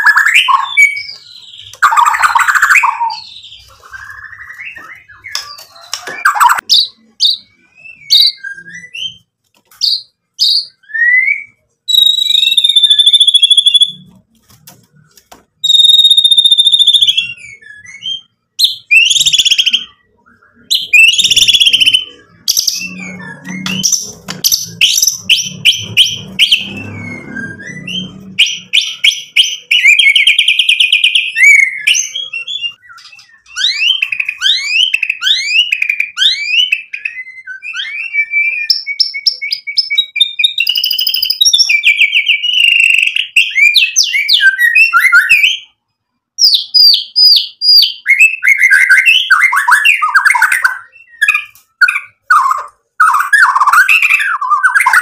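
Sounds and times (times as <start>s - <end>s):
bird singing whistled trills: 0.0s - 14.0s, 15.6s - 45.8s, 46.4s - 55.0s.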